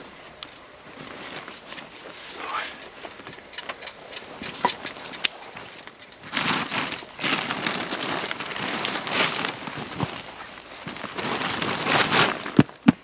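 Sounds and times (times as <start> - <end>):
rustling and crunching on forest litter: 0.0 - 3.2, 4.5 - 13.0.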